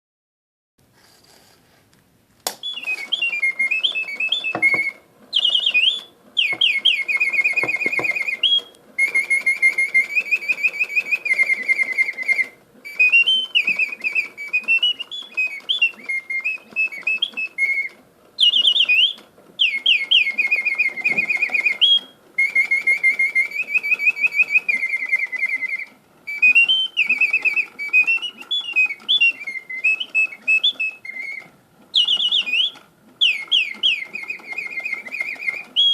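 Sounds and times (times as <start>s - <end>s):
mechanical bird whistling birdsong: 2.5s - 35.9s.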